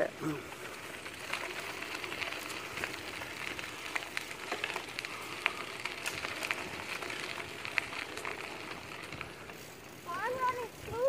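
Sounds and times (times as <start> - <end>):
bicycle tyres crunching on gravel: 0.0 - 11.0.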